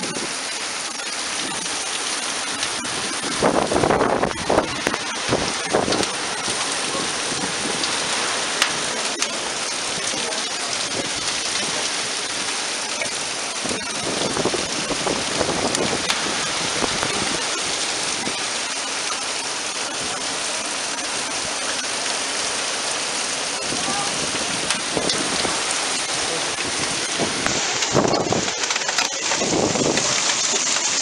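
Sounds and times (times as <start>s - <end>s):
heavy rain pouring and splashing: 0.0s - 31.0s.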